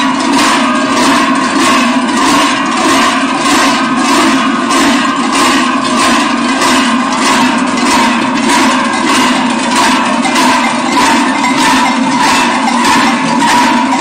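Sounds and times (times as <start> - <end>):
large cowbells clanging: 0.0 - 14.0.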